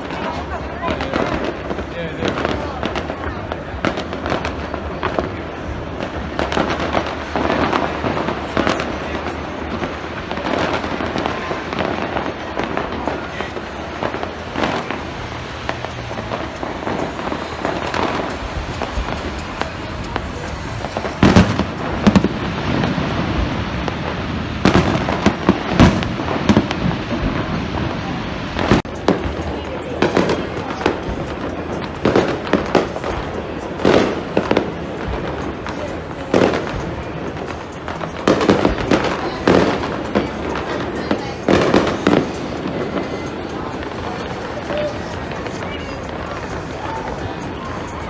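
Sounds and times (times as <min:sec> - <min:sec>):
fireworks exploding: 0:00.0 - 0:48.0
steady background noise: 0:00.0 - 0:48.0.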